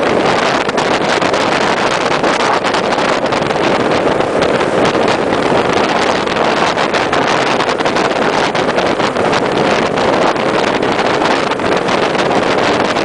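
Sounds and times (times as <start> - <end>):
vehicle road and engine noise: 0.0 - 13.0
wind buffeting microphone: 0.0 - 13.0.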